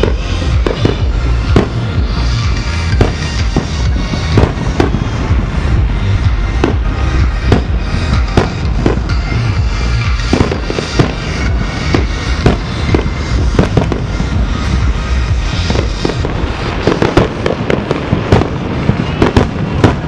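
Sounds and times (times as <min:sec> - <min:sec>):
continuous low rumble: 0:00.0 - 0:20.0
fireworks bursting with bangs: 0:00.0 - 0:20.0
music playing: 0:00.0 - 0:20.0.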